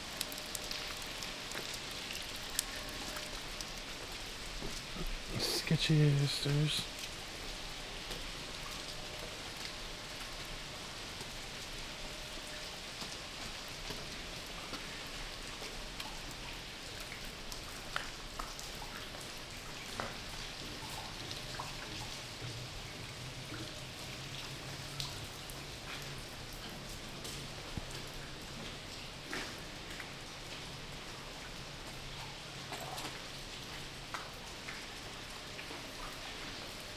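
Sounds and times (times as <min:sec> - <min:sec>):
water dripping and spattering: 0:00.0 - 0:36.9.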